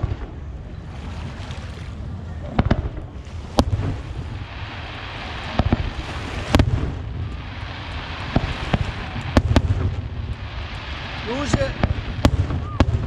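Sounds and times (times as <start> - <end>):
firework bangs: 0.0 - 0.5, 2.4 - 13.0
low rumble: 0.0 - 13.0.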